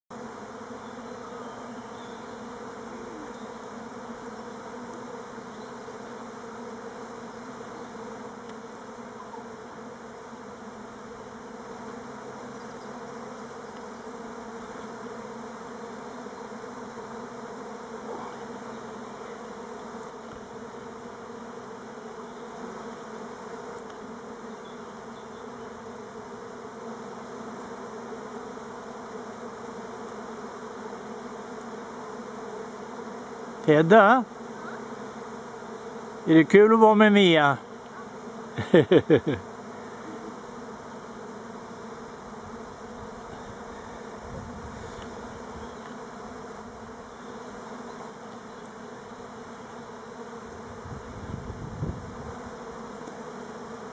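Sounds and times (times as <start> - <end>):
bees buzzing: 0.1 - 53.9.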